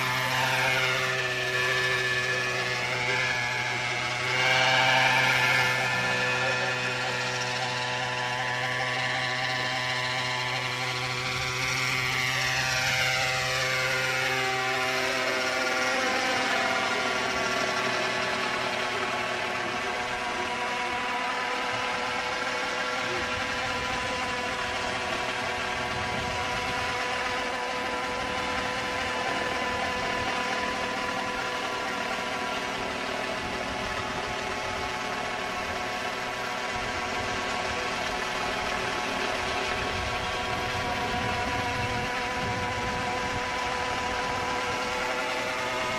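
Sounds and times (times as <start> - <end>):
model helicopter engine running: 0.0 - 45.9.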